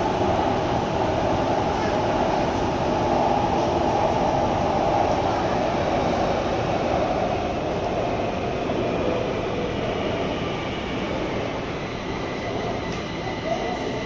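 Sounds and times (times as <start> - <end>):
metro train rumbling in tunnel: 0.0 - 14.0.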